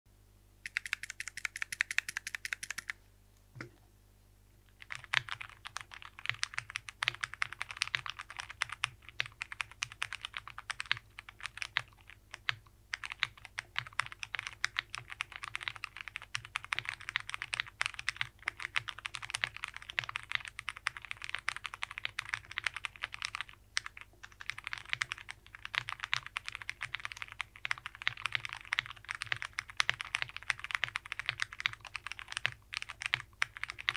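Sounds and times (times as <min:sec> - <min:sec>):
mechanical keyboard typing: 0:00.6 - 0:03.0, 0:04.8 - 0:33.9.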